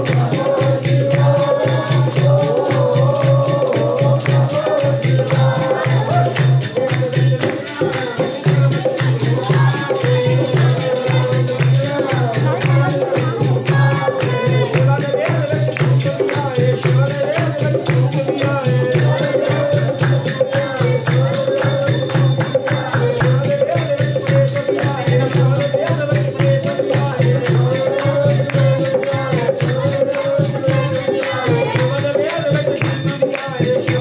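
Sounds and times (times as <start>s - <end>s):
jingling percussion: 0.0s - 34.0s.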